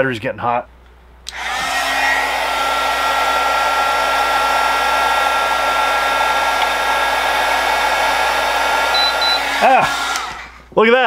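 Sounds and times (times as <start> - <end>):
heat gun blowing air: 1.3 - 10.7.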